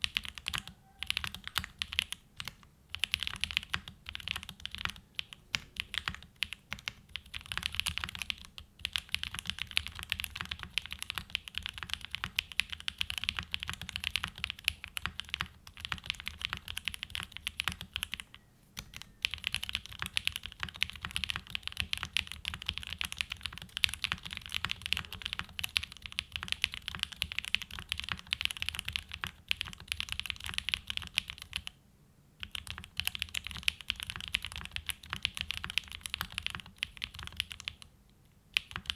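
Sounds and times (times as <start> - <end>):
fast mechanical keyboard typing: 0.0 - 31.7, 32.4 - 37.9, 38.5 - 38.9.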